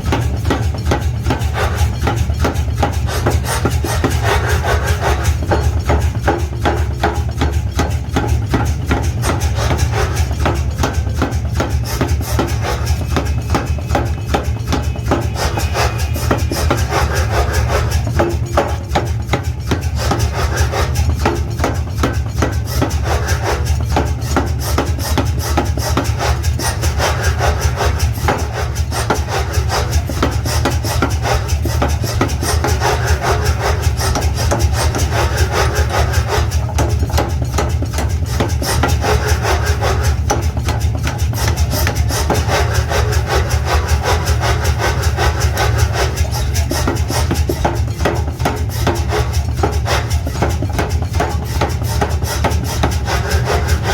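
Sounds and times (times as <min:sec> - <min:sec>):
power hammer striking steel: 0:00.0 - 0:53.9.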